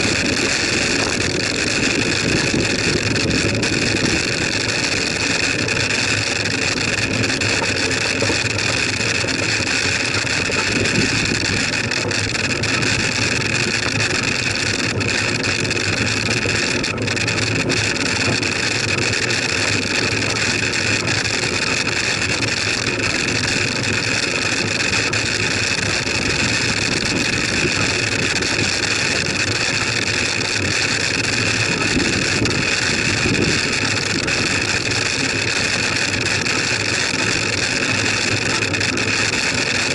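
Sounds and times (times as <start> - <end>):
bicycle road and wind noise: 0.0 - 39.9.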